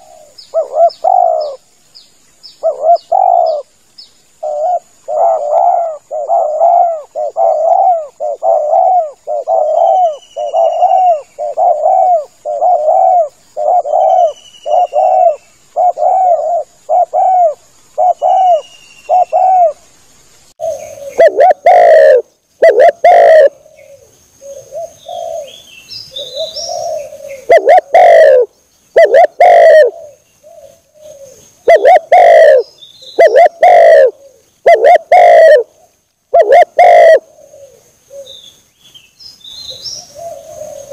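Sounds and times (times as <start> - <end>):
dove cooing: 0.0 - 1.7, 2.6 - 3.7, 4.4 - 19.8, 20.6 - 38.4, 39.7 - 40.9
small birds chirping: 0.0 - 40.9.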